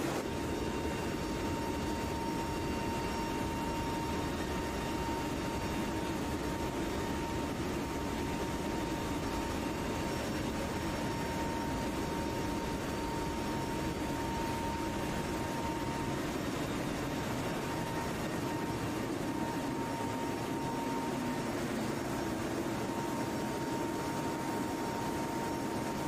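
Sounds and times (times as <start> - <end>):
turboprop engine and wind rush: 0.0 - 26.0.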